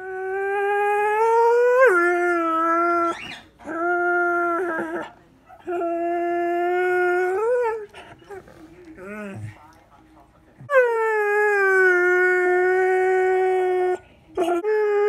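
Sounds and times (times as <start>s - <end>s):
dog howling: 0.0s - 8.4s, 10.7s - 15.0s.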